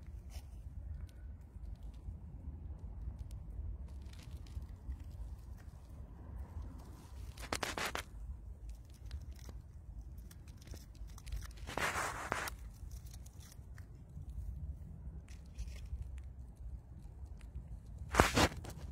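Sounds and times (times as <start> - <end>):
mouse gnawing a peanut shell: 0.0 - 18.9.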